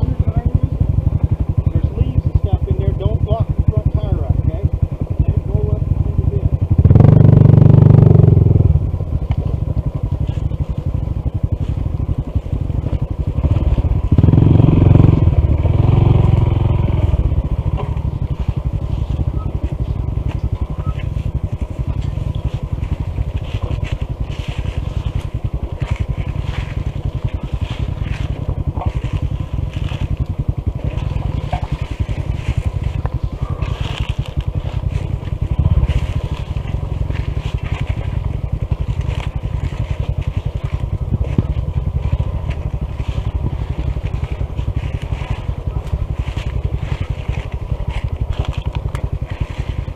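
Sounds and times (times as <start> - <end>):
motorcycle engine at low revs: 0.0 - 49.9
tyres crunching over gravel: 8.8 - 49.9.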